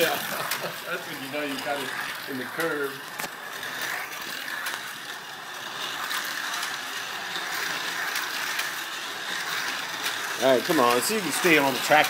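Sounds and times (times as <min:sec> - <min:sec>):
small electric motors whirring: 0:00.0 - 0:12.0
toy cars ticking and rattling: 0:00.0 - 0:12.0.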